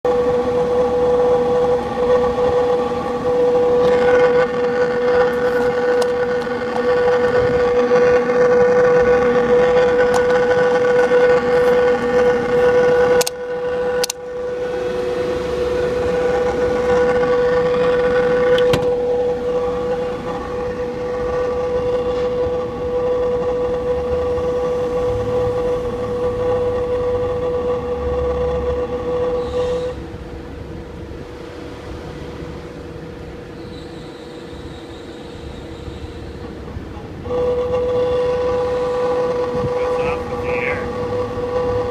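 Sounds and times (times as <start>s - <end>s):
steady car whine: 0.0s - 41.9s.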